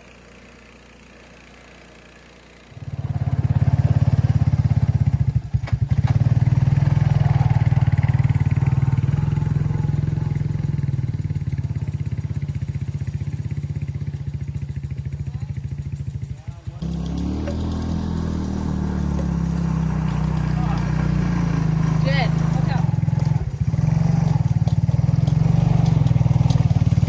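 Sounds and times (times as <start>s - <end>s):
gas engine revving: 2.6s - 27.0s.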